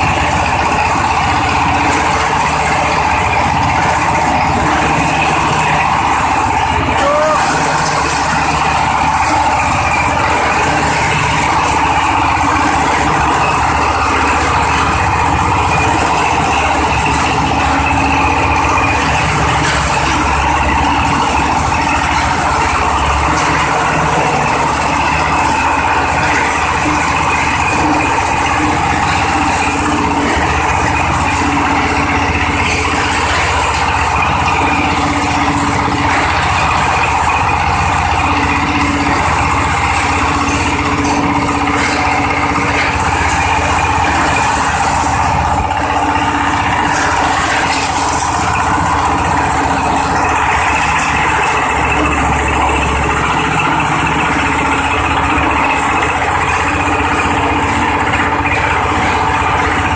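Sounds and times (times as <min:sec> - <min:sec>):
diesel machine shredding husks: 0:00.0 - 0:59.9.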